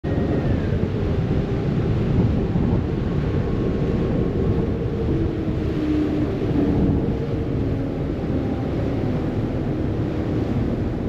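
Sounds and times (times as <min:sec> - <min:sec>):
low engine rumble: 0:00.0 - 0:11.0
wind buffeting microphone: 0:00.0 - 0:11.0
water rushing in wake: 0:00.1 - 0:11.0.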